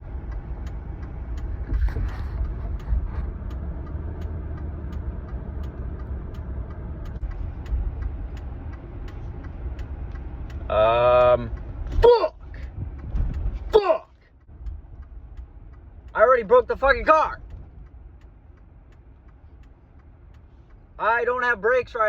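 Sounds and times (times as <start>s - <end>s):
car engine rumbling: 0.0s - 22.0s
light regular ticking: 0.0s - 22.0s.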